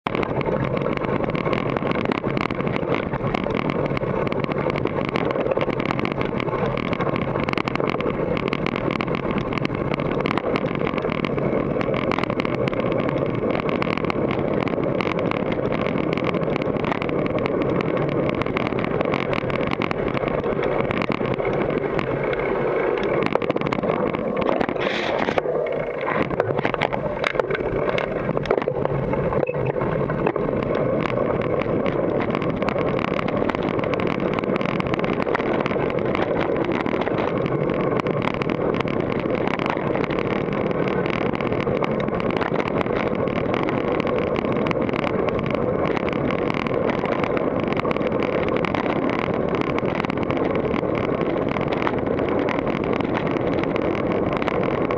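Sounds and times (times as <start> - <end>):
bike rattling over trail: 0.0 - 54.9
wind rush on microphone: 0.0 - 54.9.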